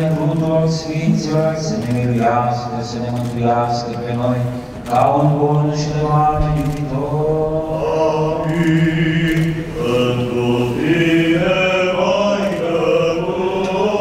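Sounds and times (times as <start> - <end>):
voices singing a slow hymn: 0.0 - 14.0.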